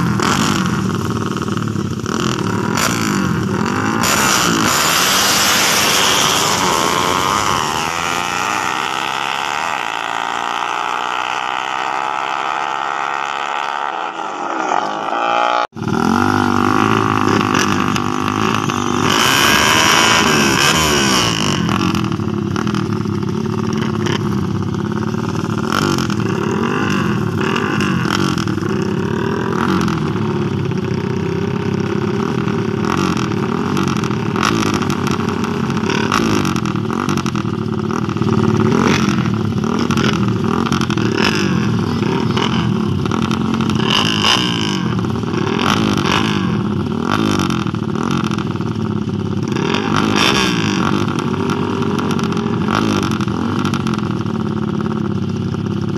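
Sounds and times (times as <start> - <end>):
motorcycle engines revving: 0.0 - 55.9
motorcycles accelerating away: 0.0 - 55.9.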